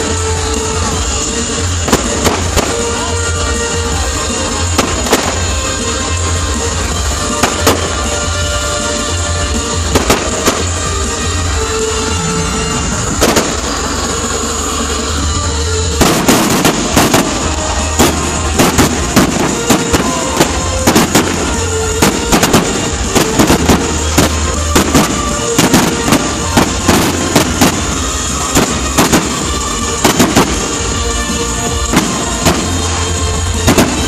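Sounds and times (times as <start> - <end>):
fireworks bursting with sharp bangs: 0.0 - 34.0
music playing: 0.0 - 34.0.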